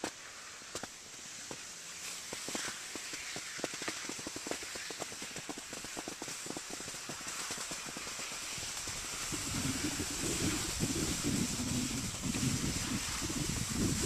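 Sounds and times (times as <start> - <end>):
ski scrapes and clicks: 0.0 - 14.0
skis hissing over snow: 0.0 - 14.0.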